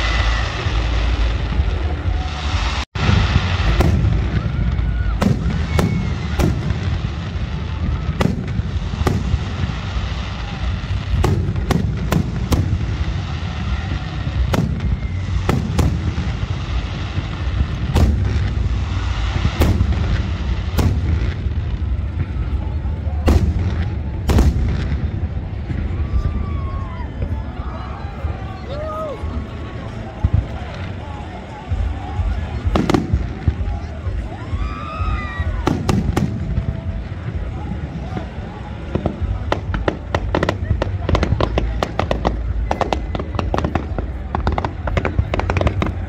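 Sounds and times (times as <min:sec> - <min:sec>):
steady low rumble: 0:00.0 - 0:46.0.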